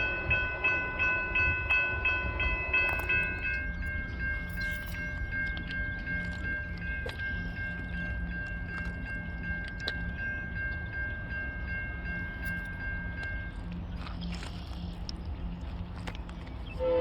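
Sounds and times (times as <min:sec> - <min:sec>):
railroad crossing bell ringing: 0:00.0 - 0:15.4, 0:16.5 - 0:17.0.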